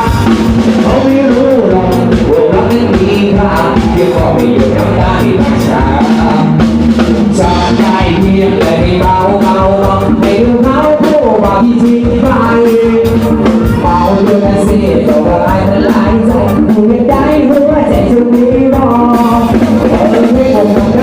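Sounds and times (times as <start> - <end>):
band with steady drum beat: 0.0 - 21.0
person singing: 0.0 - 21.0.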